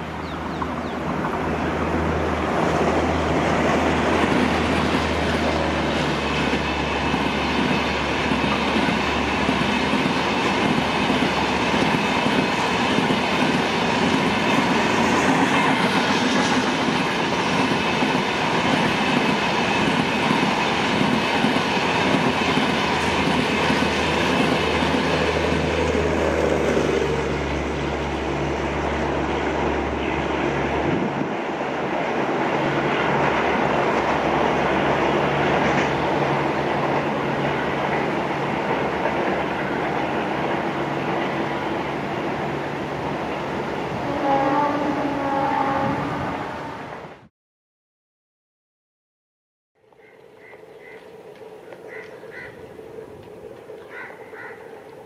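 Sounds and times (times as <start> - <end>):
train wheels rushing on rail: 0.0 - 47.3.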